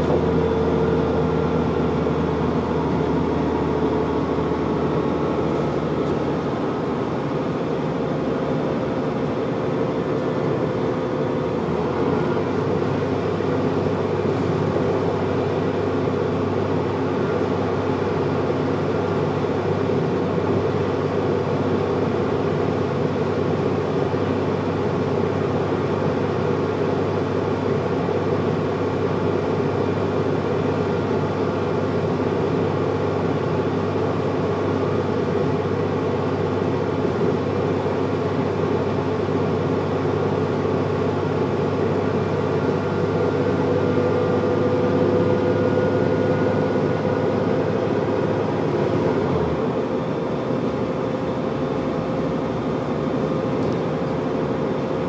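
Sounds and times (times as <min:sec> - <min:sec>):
diesel bus engine drone: 0:00.0 - 0:55.0.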